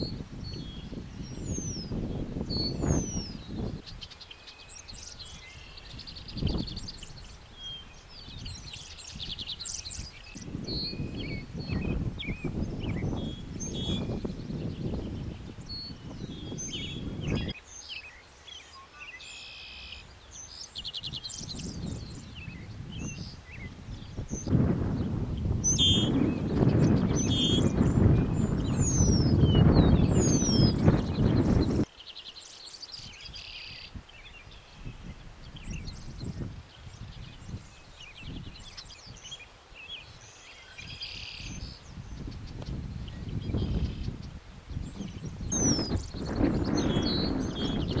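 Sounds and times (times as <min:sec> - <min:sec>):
wind rumbling on microphone: 0:00.0 - 0:17.6, 0:19.9 - 0:31.9, 0:32.9 - 0:48.0
songbirds chirping and trilling: 0:00.0 - 0:48.0.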